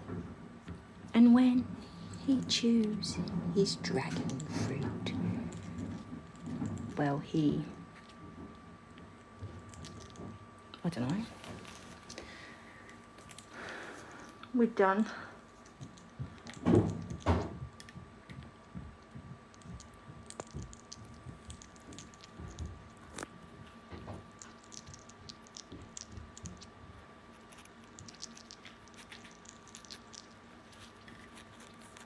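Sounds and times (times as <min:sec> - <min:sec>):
air purifier hum: 0:00.0 - 0:32.0
parrot crunching food: 0:04.0 - 0:14.6, 0:15.4 - 0:32.0.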